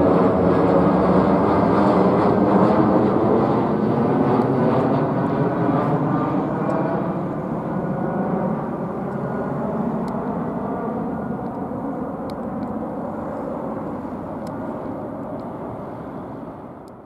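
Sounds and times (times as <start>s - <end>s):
jet airliner rumble: 0.0s - 17.0s.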